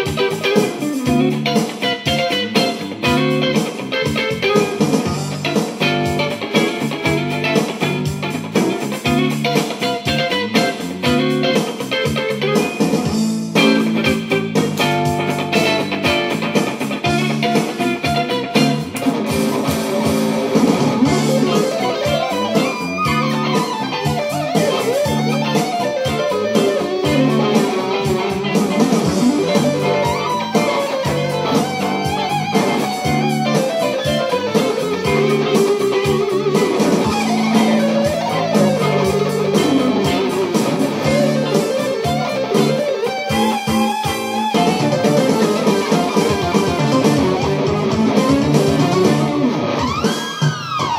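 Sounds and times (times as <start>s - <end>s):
electric guitar lead: 0.0s - 50.9s.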